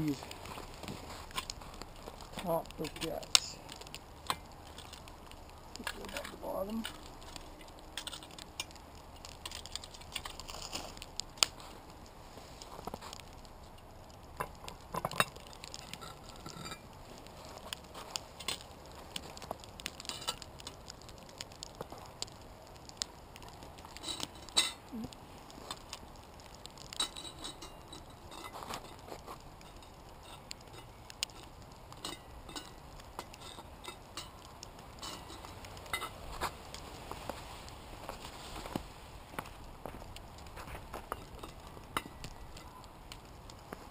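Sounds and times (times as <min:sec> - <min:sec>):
tongs and charcoal clinking on pot: 0:00.0 - 0:11.6, 0:13.0 - 0:17.0, 0:17.6 - 0:21.9, 0:22.9 - 0:36.8, 0:39.4 - 0:43.3.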